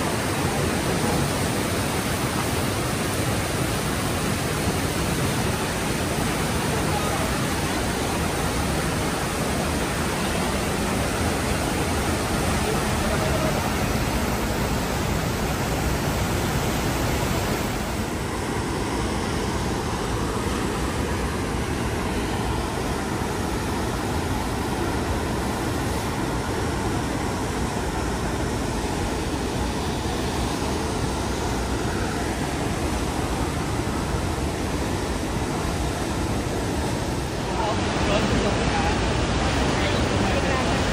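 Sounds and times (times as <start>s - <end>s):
whitewater rushing: 0.0s - 40.9s.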